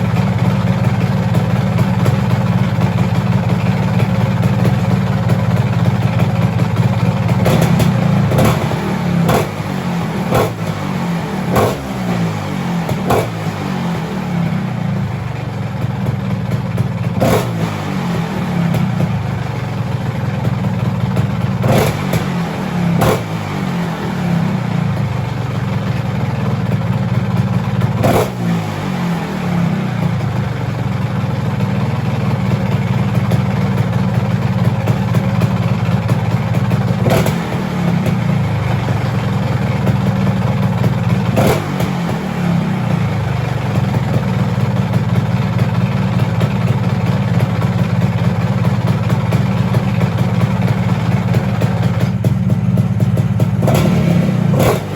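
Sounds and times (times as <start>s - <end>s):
scooter engine idling and revving: 0.0s - 54.9s.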